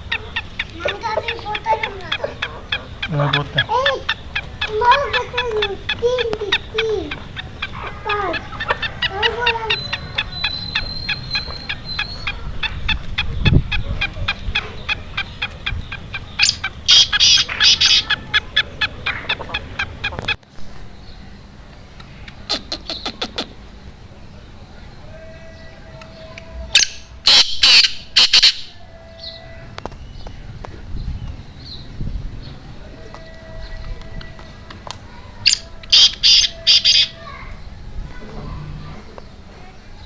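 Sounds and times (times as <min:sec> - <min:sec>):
caged birds calling: 0:00.0 - 0:40.0.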